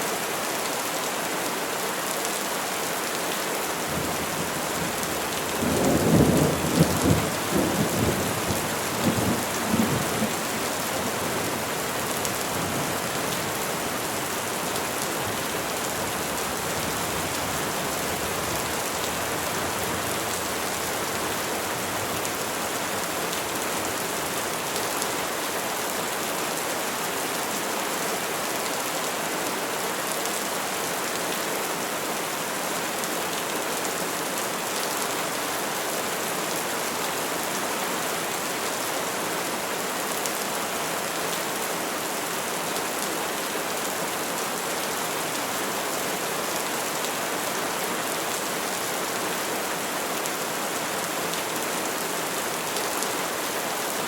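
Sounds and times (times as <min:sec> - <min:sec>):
rain on trees: 0:00.0 - 0:54.0.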